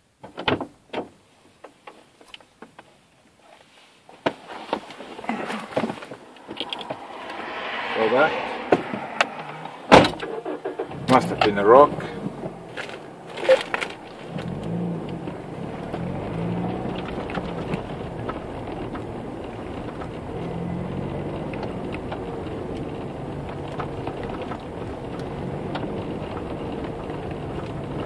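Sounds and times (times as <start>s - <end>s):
tyre noise: 2.9s - 28.0s
car engine hum: 4.7s - 28.0s.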